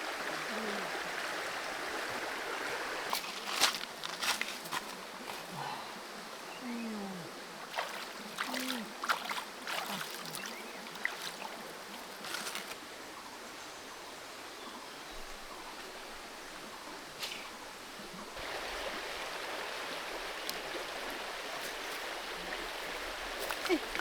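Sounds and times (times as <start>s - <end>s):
creek water rushing: 0.0s - 13.2s, 15.8s - 24.0s.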